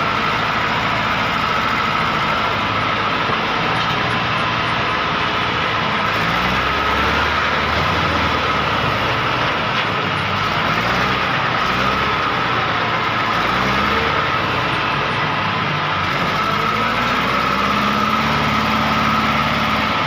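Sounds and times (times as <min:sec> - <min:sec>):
tractor diesel engine straining: 0:00.0 - 0:20.0.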